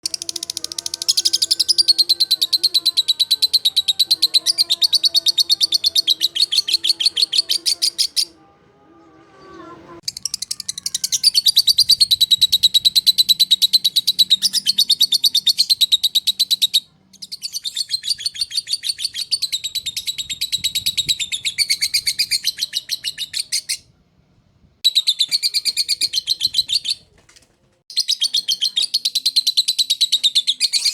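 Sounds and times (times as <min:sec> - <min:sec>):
lovebird shrill chatter: 0:00.0 - 0:08.4, 0:10.0 - 0:23.8, 0:27.9 - 0:30.9.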